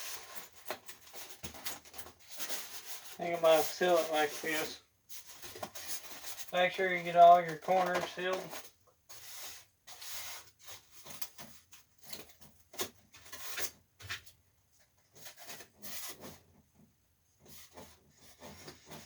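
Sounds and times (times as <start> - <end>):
hands rubbing and scraping casing: 0.0 - 14.3, 17.4 - 19.0.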